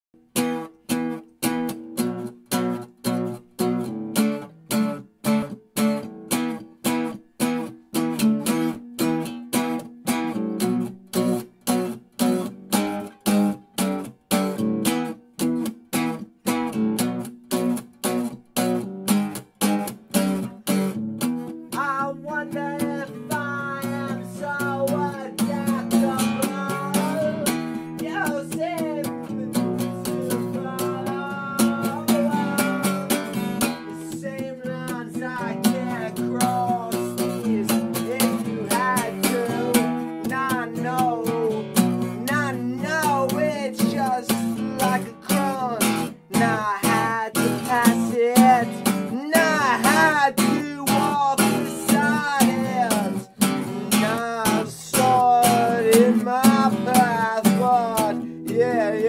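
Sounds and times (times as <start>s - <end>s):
acoustic guitar strumming: 0.2s - 59.0s.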